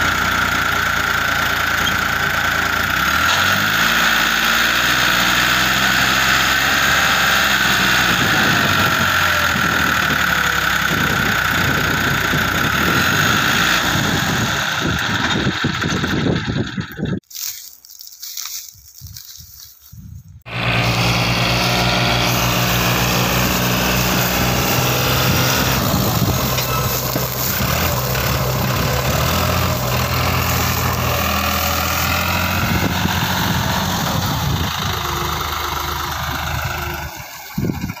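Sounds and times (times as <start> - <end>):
tractor diesel engine under load: 0.0 - 17.3, 20.4 - 38.0.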